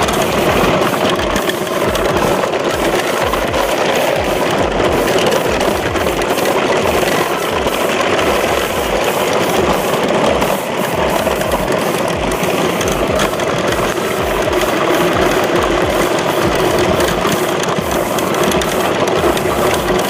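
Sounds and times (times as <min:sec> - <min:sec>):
small motor running with rattle: 0:00.0 - 0:20.0.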